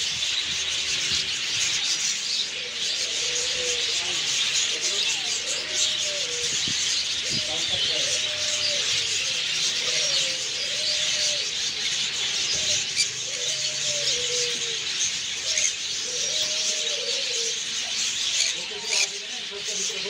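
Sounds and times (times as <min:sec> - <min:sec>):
caged birds chirping: 0:00.0 - 0:20.0
low cooing call: 0:02.4 - 0:19.2.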